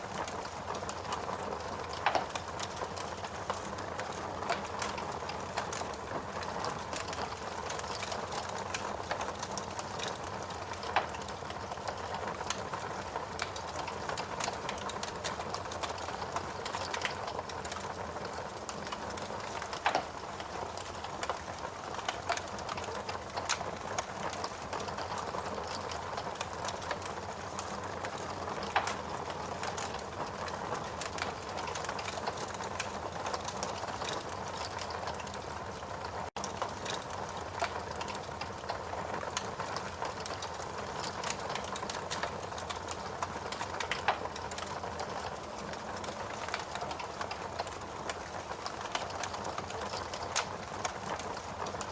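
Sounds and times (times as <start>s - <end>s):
wood fire crackling: 0.0s - 51.9s
fire pops: 0.2s - 12.6s, 19.1s - 21.4s, 22.0s - 35.4s, 36.4s - 51.3s.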